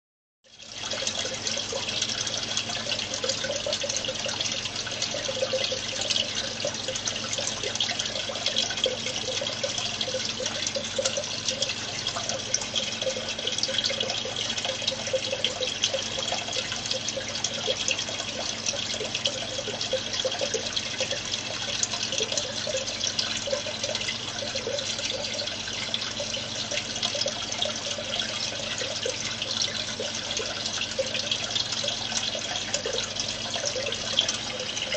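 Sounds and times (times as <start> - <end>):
water trickling: 0.5 - 34.9.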